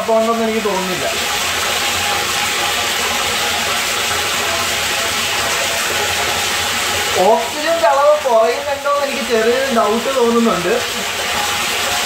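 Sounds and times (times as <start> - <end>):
water pouring into a tank: 0.0 - 12.0.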